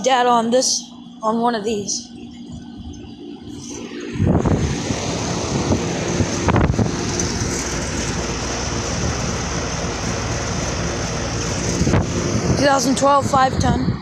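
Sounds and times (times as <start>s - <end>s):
compressor hum: 0.0s - 14.0s
condenser fan air rush: 0.0s - 14.0s.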